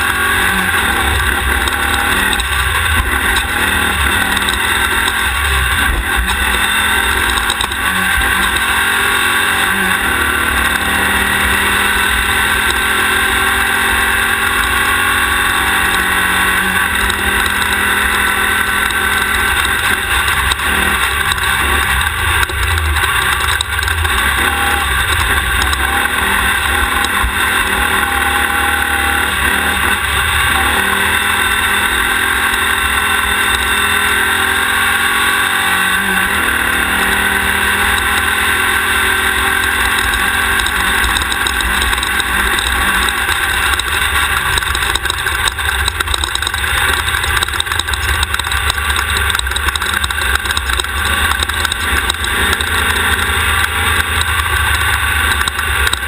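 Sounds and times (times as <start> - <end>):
race car engine running hard: 0.0 - 56.0
ride noise: 0.0 - 56.0.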